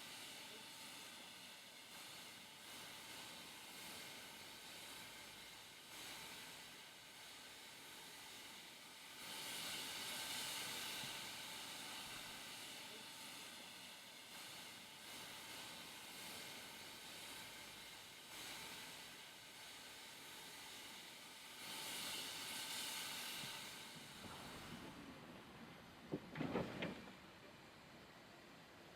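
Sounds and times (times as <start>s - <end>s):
steam locomotive hissing: 0.0s - 28.9s.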